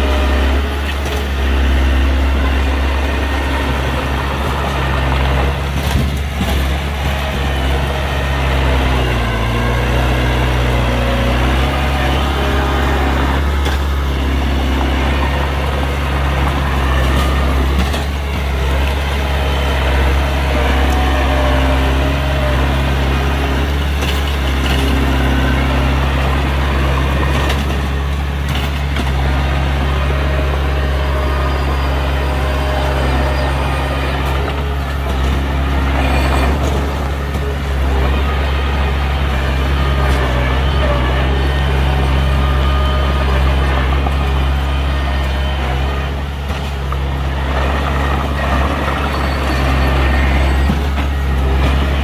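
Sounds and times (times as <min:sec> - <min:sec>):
heavy diesel engine humming: 0:00.0 - 0:52.0.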